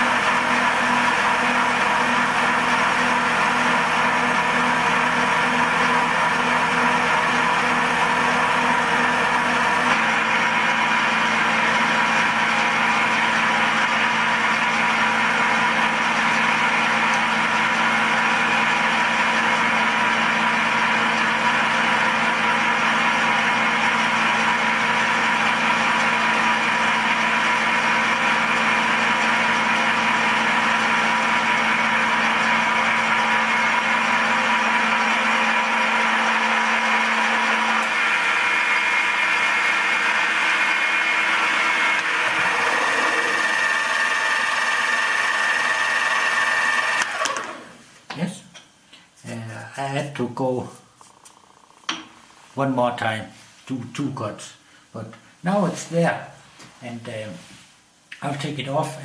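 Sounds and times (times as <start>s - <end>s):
milling machine cutting metal: 0.1s - 47.7s.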